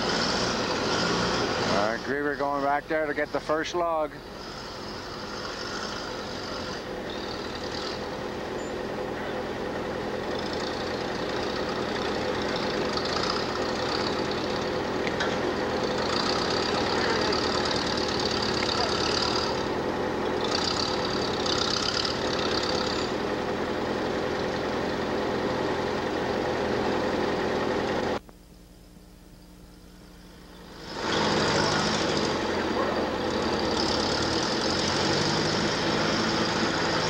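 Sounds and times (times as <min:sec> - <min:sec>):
heavy machine engine running: 0:00.0 - 0:28.2, 0:29.9 - 0:37.0.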